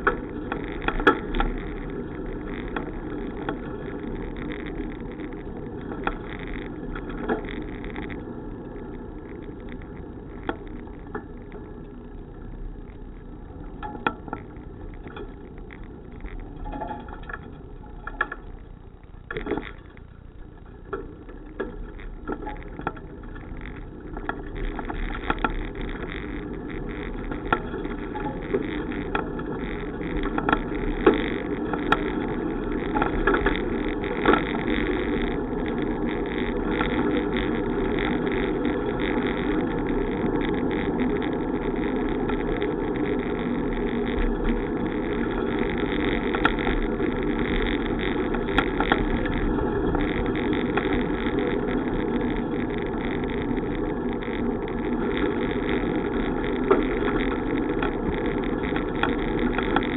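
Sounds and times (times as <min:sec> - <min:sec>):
bicycle tyres rumbling: 0:00.0 - 0:59.9
bike rattling and clicking: 0:00.0 - 0:59.9
wind: 0:00.0 - 0:59.9.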